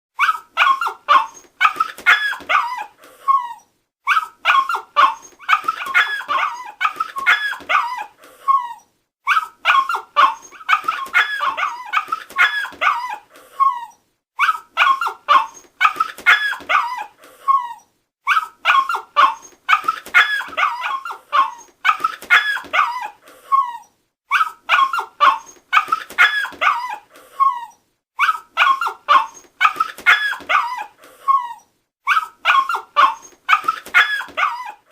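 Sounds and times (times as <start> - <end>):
dog barking and yipping: 0.2 - 34.9
dog whimpering and whining: 0.2 - 34.9.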